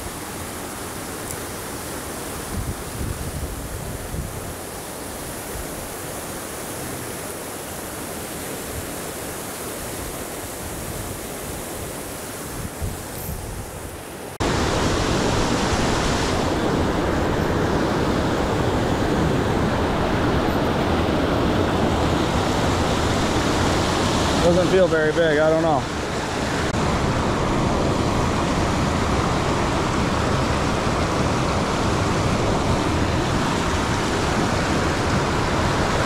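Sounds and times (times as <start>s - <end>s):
flowing river: 0.0s - 36.0s
whitewater rapids over rocks: 0.0s - 36.0s.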